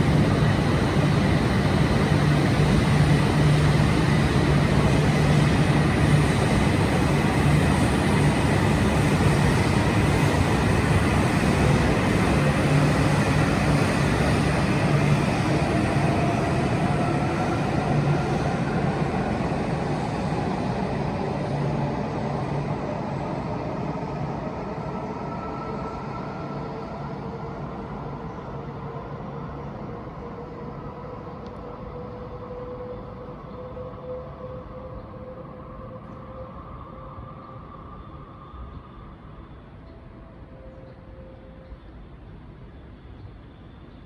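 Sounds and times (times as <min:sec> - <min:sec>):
train rumble and hum: 0:00.0 - 0:44.0.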